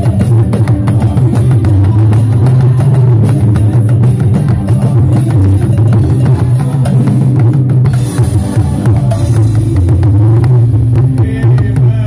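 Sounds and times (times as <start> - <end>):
steady bass line: 0.0 - 12.0
talking drum beaten rapidly: 0.0 - 12.0.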